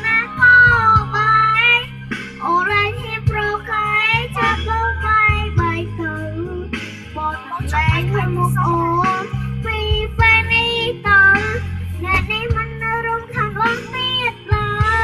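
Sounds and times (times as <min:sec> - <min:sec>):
backing track with bass line: 0:00.0 - 0:15.0
girl singing into microphone: 0:00.0 - 0:15.0.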